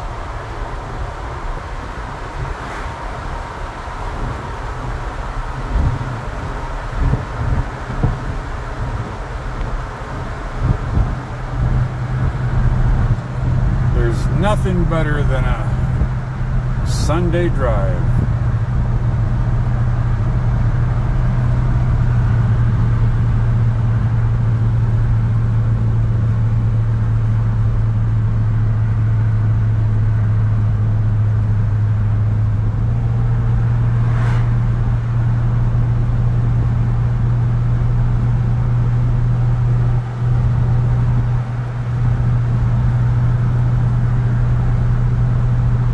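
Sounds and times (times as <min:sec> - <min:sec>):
road noise: 0:00.0 - 0:45.9
truck engine cruising drone: 0:00.0 - 0:45.9.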